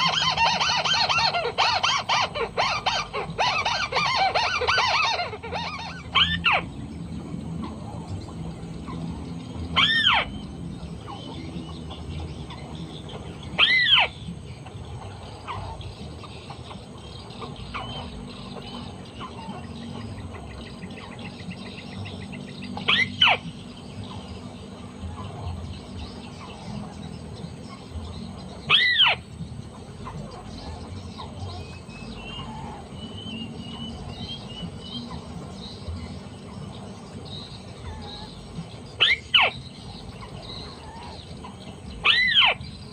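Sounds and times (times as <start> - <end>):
crake squealing calls: 0.0 - 7.0, 8.7 - 42.9
faint bird chirps: 0.0 - 42.9.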